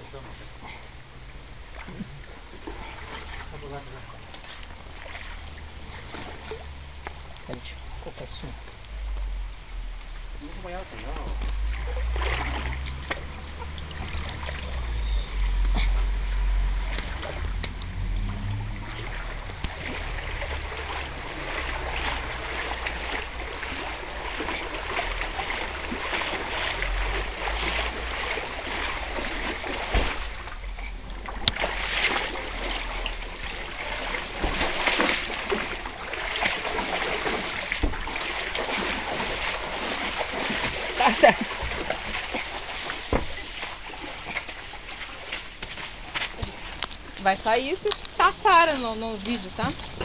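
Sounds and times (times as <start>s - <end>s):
low rumble: 0.0s - 43.4s
water splashing and sloshing: 0.0s - 50.0s.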